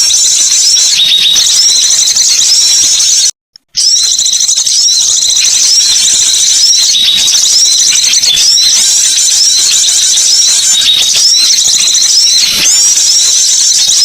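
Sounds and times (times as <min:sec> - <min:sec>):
small birds chattering: 0:00.0 - 0:14.0.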